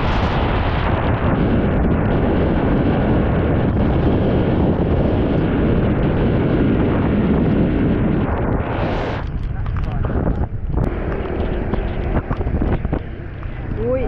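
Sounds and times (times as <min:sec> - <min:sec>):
moving vehicle rumble: 0:00.0 - 0:14.0
wind buffeting microphone: 0:00.0 - 0:14.0.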